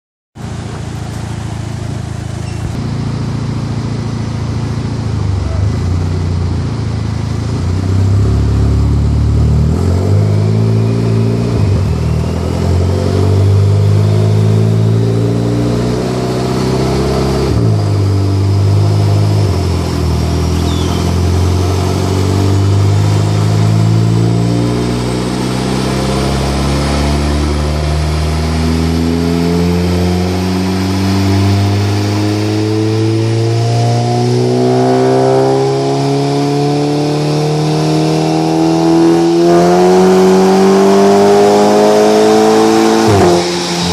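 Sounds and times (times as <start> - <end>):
car engine under load: 0.4 - 43.9
high turbo whine: 0.4 - 43.9.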